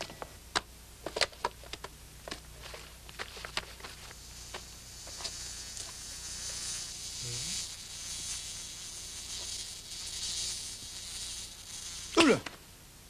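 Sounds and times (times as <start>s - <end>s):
high hissy buzz: 2.0s - 13.0s.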